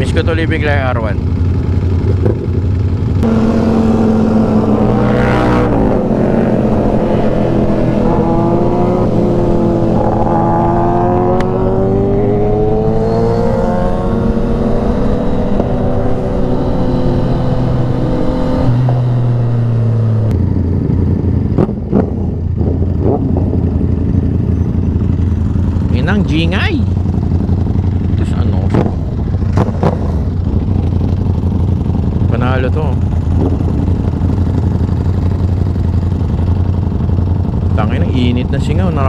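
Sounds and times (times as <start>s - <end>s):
motorcycle engines accelerating: 0.0s - 39.0s.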